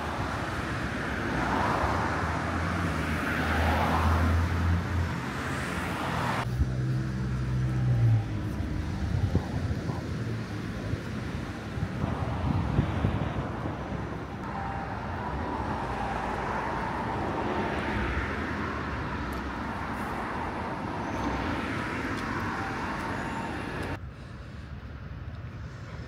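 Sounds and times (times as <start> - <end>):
cars passing on street: 0.0 - 26.0.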